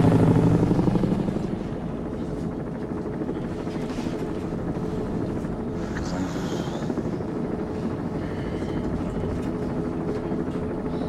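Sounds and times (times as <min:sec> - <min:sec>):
helicopter drone from inside cabin: 0:00.0 - 0:11.0.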